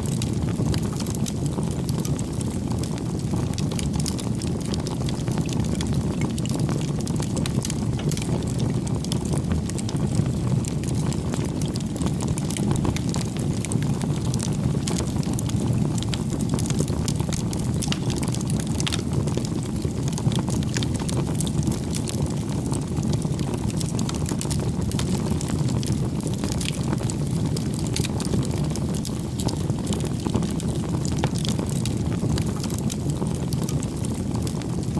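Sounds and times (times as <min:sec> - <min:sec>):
low fire rumble: 0:00.0 - 0:34.9
wood fire crackling: 0:00.0 - 0:34.9.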